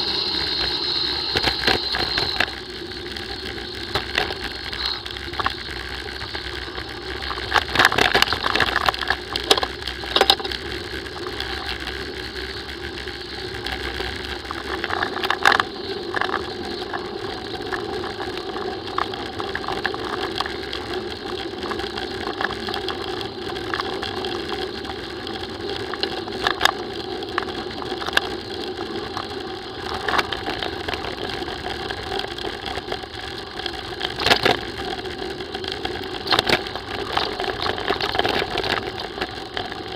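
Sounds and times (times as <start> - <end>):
bike tyres rolling on gravel: 0.0 - 39.9
bike knocking and rattling: 3.2 - 39.9.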